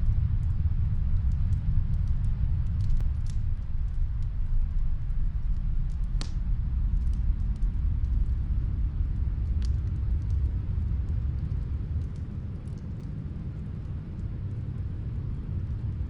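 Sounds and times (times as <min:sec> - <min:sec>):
snowstorm wind rumble: 0:00.0 - 0:16.0
wood fire crackling: 0:00.0 - 0:16.0.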